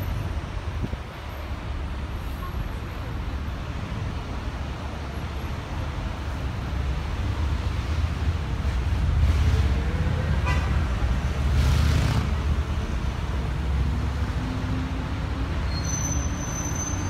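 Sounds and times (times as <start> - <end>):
bus and traffic rumble: 0.0 - 17.0.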